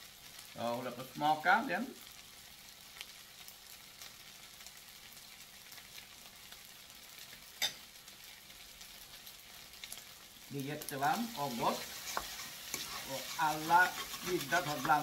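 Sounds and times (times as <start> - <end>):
rice sizzling in a pan: 0.0 - 15.0.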